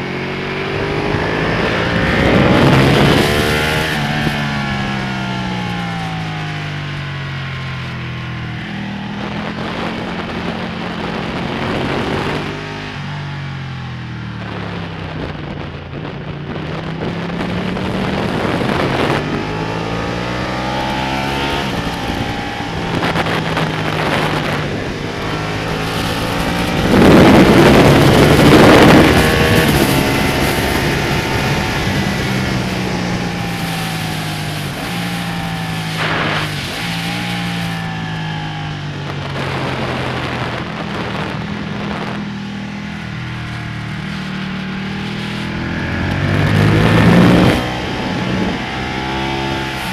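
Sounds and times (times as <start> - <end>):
motorcycle engine accelerating: 0.0 - 49.9
rush of noise: 0.0 - 49.9.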